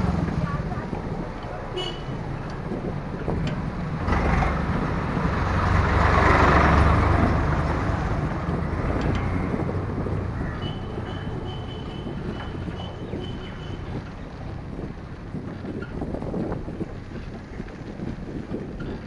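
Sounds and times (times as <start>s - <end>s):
vehicles passing close by: 0.0s - 19.0s.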